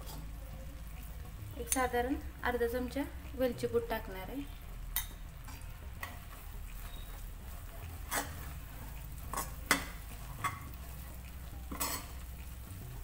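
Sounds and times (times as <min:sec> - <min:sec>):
low sizzle: 0:00.0 - 0:13.0.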